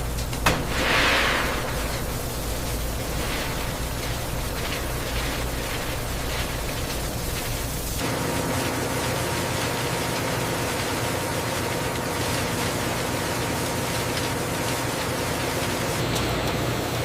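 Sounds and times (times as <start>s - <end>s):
factory machine hissing and humming: 0.0s - 17.0s.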